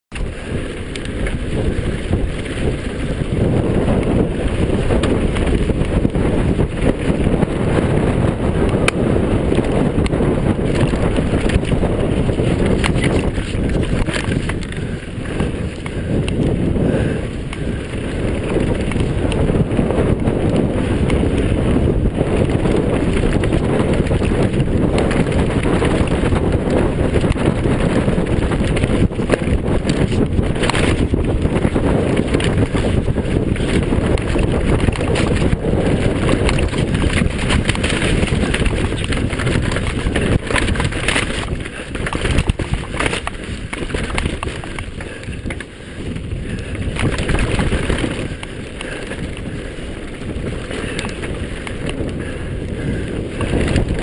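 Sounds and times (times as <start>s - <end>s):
bike knocks and rattles: 0.1s - 54.0s
tyres rumbling over dirt: 0.1s - 54.0s
wind rushing over microphone: 0.1s - 54.0s.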